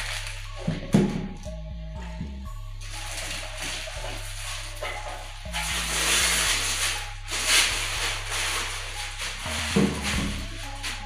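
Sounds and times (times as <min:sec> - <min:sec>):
plastic wrapping crinkling: 0:00.0 - 0:01.5, 0:02.8 - 0:11.0
background music with bass line: 0:00.0 - 0:11.0.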